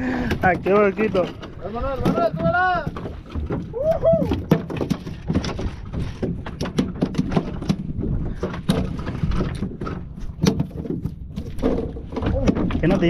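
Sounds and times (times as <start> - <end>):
water splashing against boat hull: 0.0 - 13.0
wind rumble on microphone: 0.0 - 13.0.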